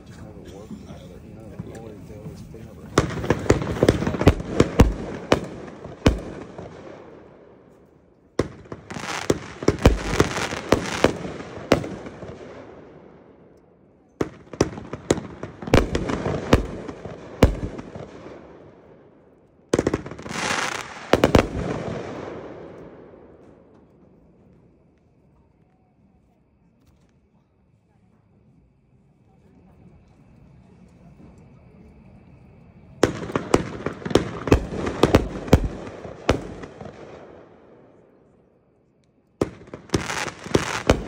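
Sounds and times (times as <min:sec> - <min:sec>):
fireworks bangs and crackle: 0:00.0 - 0:26.0, 0:32.6 - 0:38.4, 0:39.3 - 0:41.0.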